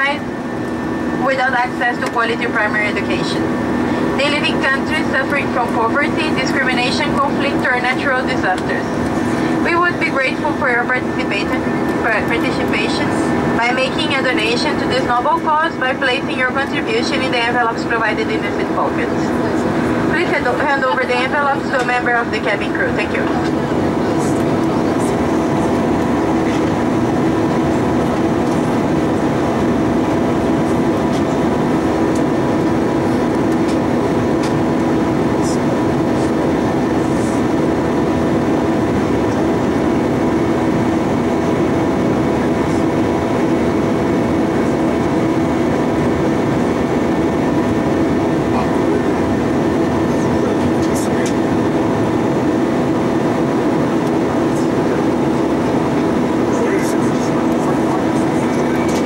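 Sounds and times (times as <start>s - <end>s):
aircraft engines droning: 0.0s - 59.0s
constant hums: 0.0s - 59.0s.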